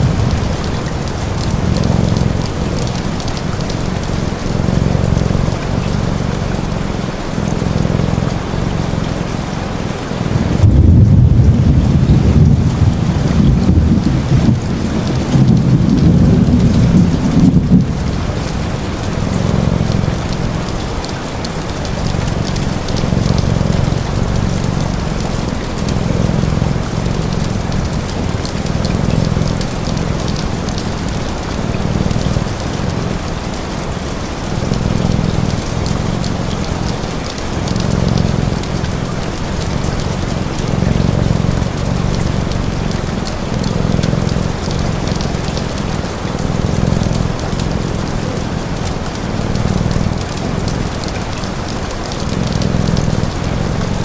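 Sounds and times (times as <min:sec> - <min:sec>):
cat purring: 0:00.0 - 0:54.0
rain pattering: 0:00.0 - 0:54.0.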